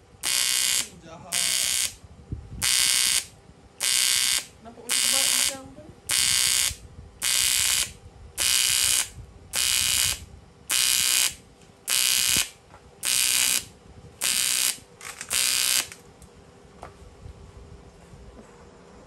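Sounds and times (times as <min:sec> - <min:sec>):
welding arc buzzing: 0:00.0 - 0:02.0, 0:02.6 - 0:16.1.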